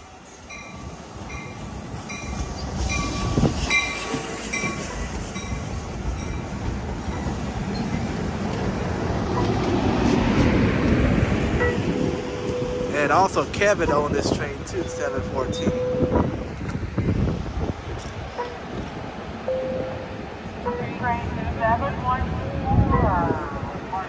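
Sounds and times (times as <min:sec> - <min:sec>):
passenger train rumbling past: 0:00.0 - 0:24.0.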